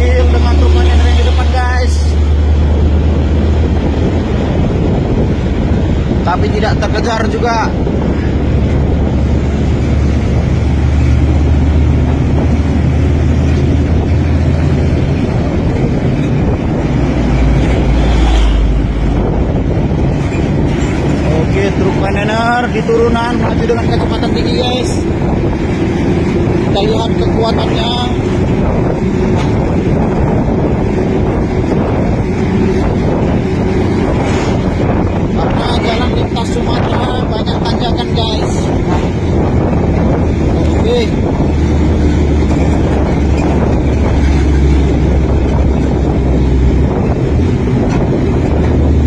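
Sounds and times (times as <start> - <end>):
truck diesel engine labouring: 0.0 - 49.0
wind buffeting microphone: 0.0 - 49.0.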